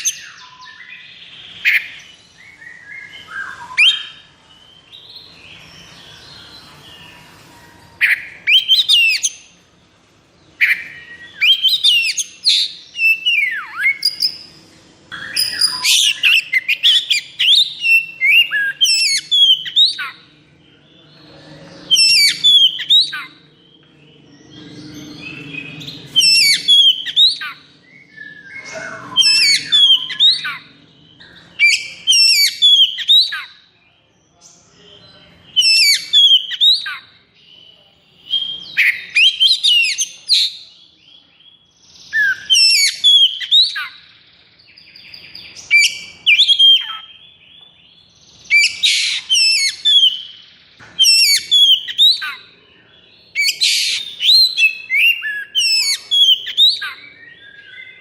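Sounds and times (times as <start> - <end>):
songbird singing rapid whistles: 0.0 - 9.6, 10.5 - 20.3, 21.1 - 58.0.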